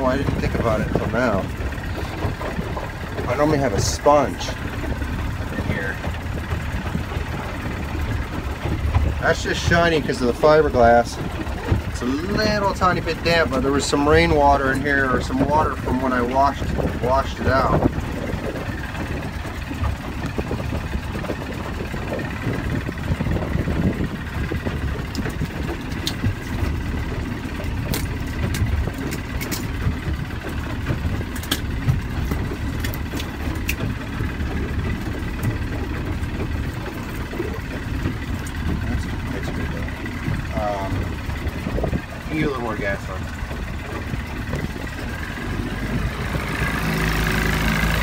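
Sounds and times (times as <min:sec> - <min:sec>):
boat engine rumbling: 0:00.0 - 0:48.0.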